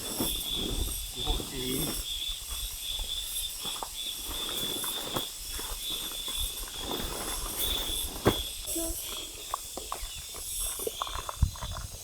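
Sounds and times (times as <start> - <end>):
high-pitched insect chirring: 0.2 - 12.0.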